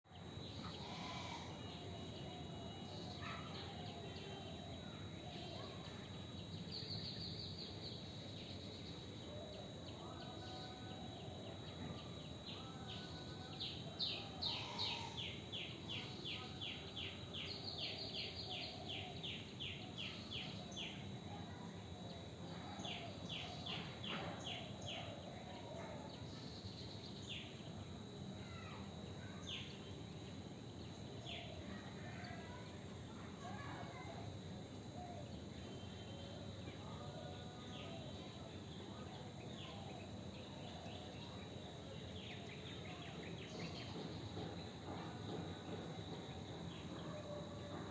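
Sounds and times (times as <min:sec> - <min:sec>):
thin steady high tone: 0:00.1 - 0:47.9.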